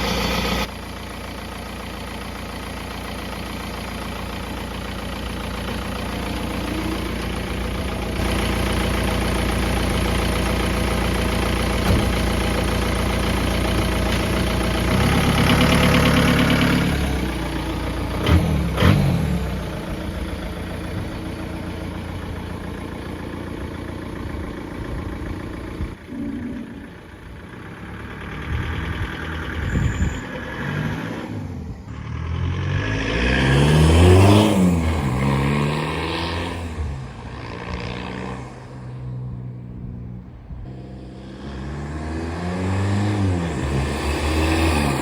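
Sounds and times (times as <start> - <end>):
diesel engine revving: 0.0 - 45.0.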